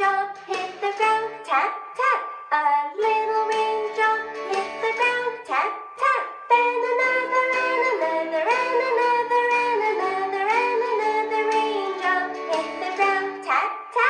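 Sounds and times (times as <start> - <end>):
children's song music: 0.0 - 14.0.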